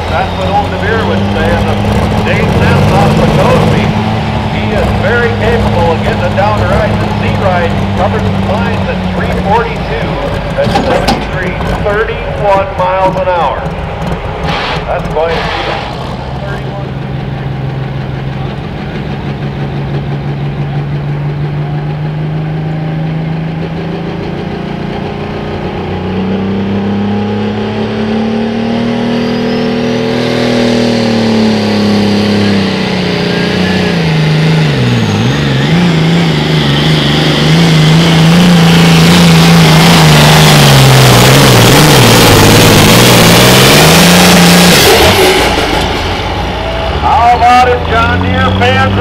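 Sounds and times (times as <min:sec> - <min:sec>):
tractor engine revving: 0:00.0 - 0:49.0.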